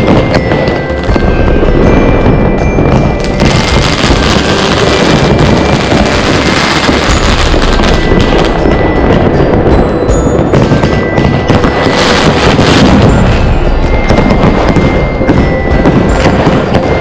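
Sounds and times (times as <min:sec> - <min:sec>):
fireworks bangs and crackling: 0:00.0 - 0:17.0
music with bell-like notes: 0:00.0 - 0:17.0.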